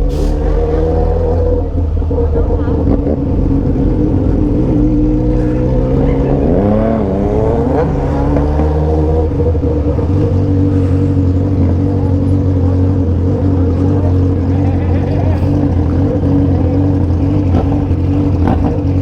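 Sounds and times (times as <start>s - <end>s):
motorcycle engine revving: 0.0s - 19.0s
motorcycle engines running: 0.0s - 19.0s.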